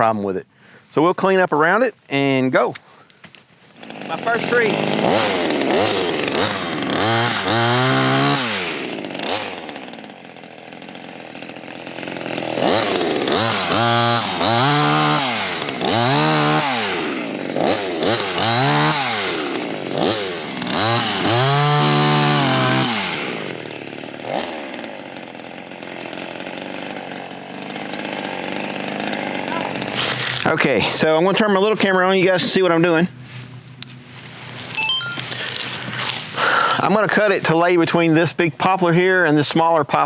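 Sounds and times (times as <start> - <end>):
chainsaw revving and idling: 3.6 - 40.0.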